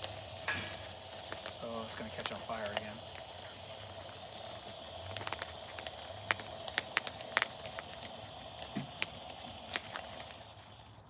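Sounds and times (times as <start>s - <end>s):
firework crackles and pops: 0.0s - 11.0s
firework hissing: 0.0s - 11.0s.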